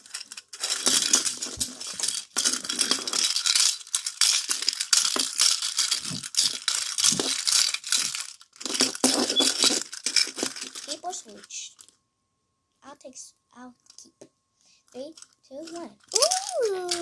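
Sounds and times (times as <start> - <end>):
thin plastic crinkling and rattling: 0.0 - 12.0, 14.9 - 17.0.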